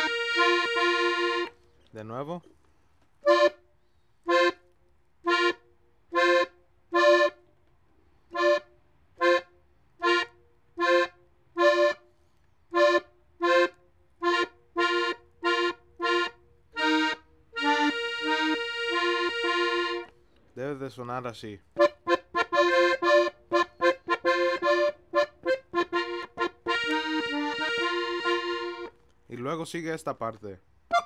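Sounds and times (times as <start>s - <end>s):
button accordion slow melody: 0.0s - 1.6s, 3.2s - 7.5s, 8.3s - 20.2s, 21.8s - 29.0s.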